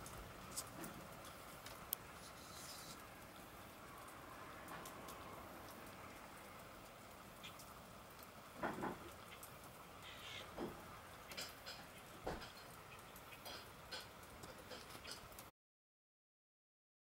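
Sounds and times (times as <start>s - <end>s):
wet snow pattering: 0.0s - 15.5s.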